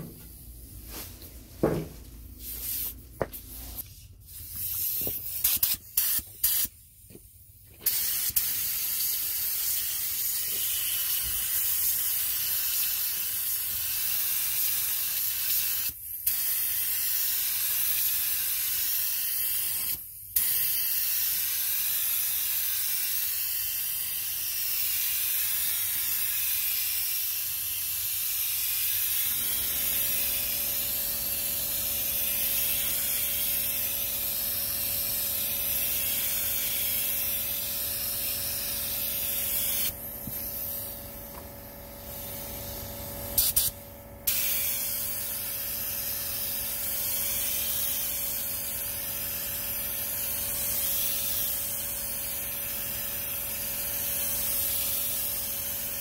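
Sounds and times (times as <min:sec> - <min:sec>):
spray gun hissing: 0:01.7 - 0:06.7, 0:07.8 - 0:41.0, 0:41.6 - 0:56.0.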